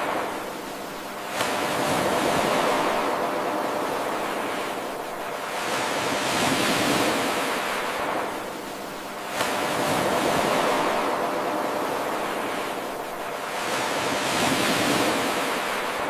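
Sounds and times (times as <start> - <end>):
ocean waves washing in: 0.0 - 16.0.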